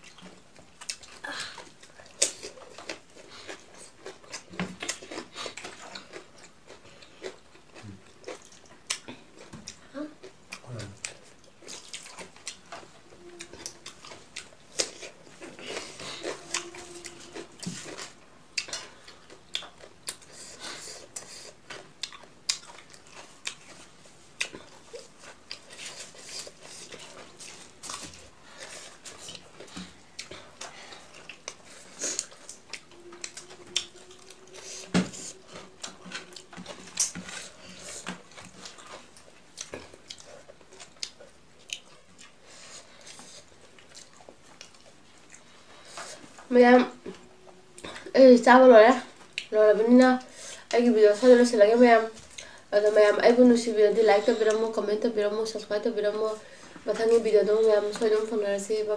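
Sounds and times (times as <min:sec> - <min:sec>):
person chewing food: 0:00.0 - 0:48.2, 0:48.8 - 0:53.0.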